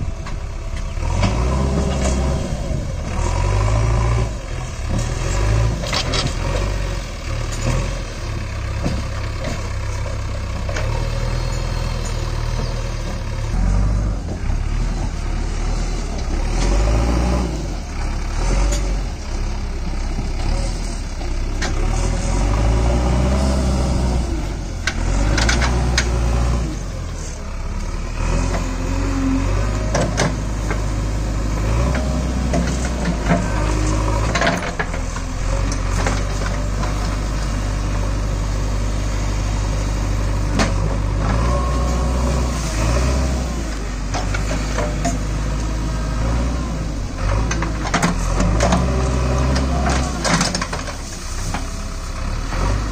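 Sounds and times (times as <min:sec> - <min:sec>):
diesel engine under load: 0:00.0 - 0:52.9.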